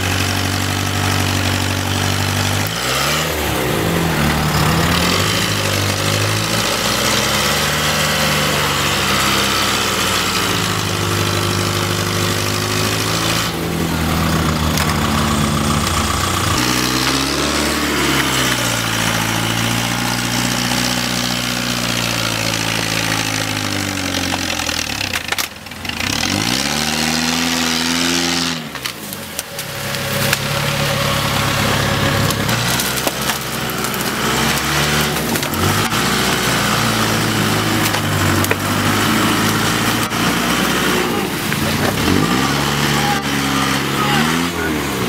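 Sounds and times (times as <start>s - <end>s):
jeep engine revving: 0.0s - 45.0s.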